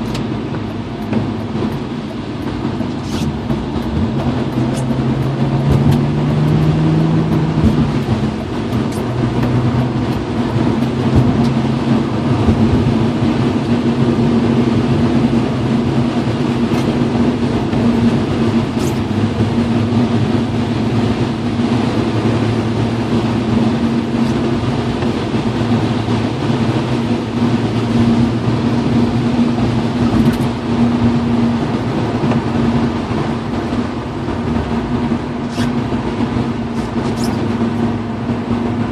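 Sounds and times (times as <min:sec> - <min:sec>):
car engine running steadily: 0:00.0 - 0:38.9
tyre noise on wet road: 0:00.0 - 0:38.9.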